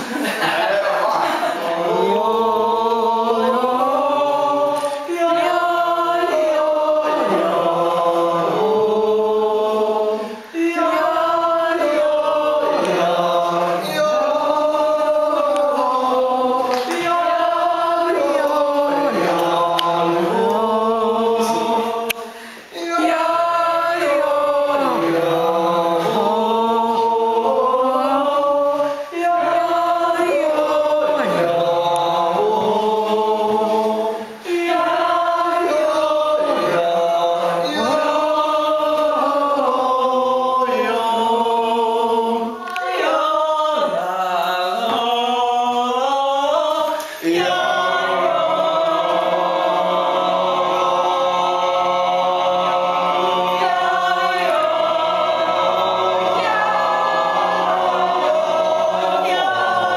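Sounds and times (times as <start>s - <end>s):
group singing yodel melody: 0.0s - 59.9s.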